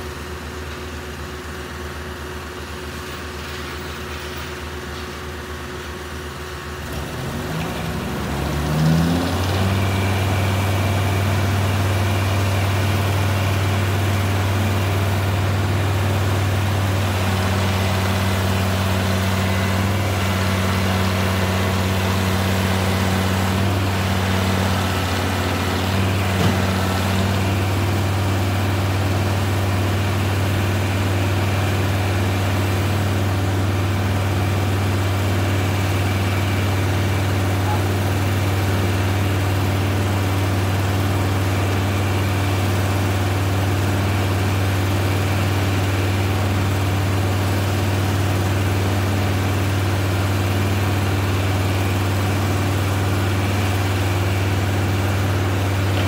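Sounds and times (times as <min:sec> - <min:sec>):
diesel engine revving: 0:06.8 - 0:56.0.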